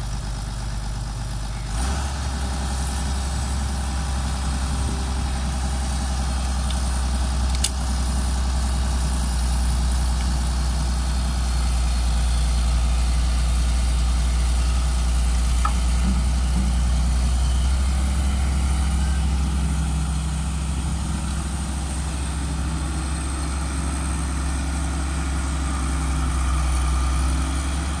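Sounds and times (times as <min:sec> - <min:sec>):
diesel excavator engine running: 0:00.0 - 0:28.0.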